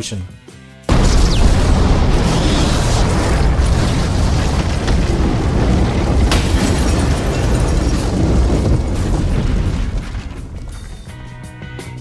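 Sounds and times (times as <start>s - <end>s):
rumbling explosion blast: 0.9s - 11.4s
sharp crack: 0.9s - 11.4s.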